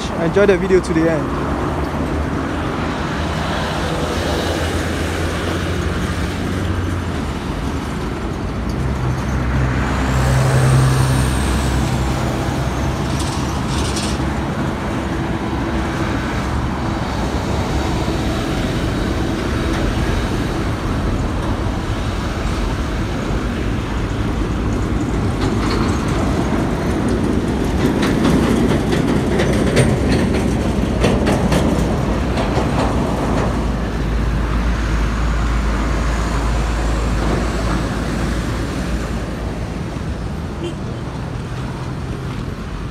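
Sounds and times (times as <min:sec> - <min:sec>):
road traffic: 0:00.0 - 0:42.9
vehicle passing close: 0:00.0 - 0:42.9.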